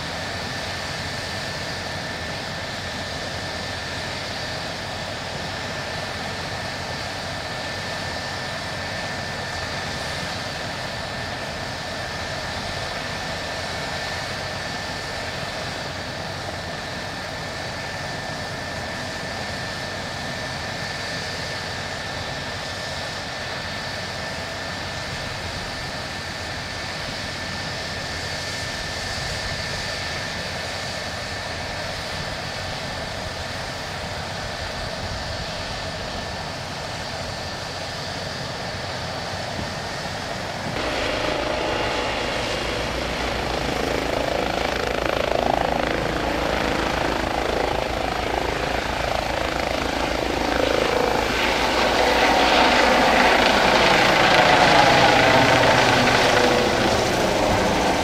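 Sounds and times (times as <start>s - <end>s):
helicopter turbine whine and rotor: 0.0s - 58.0s.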